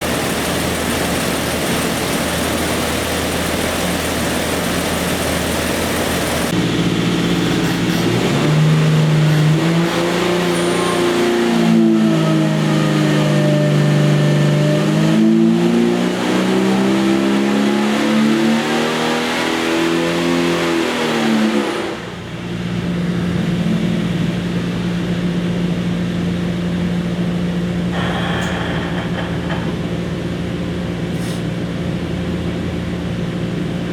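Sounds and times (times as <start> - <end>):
car engine revving on dyno: 0.0 - 30.8.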